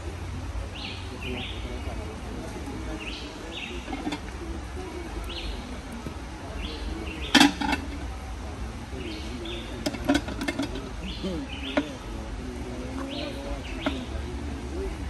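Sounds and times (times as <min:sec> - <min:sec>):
bird calling: 0:00.0 - 0:15.0
low outdoor rumble: 0:00.0 - 0:15.0.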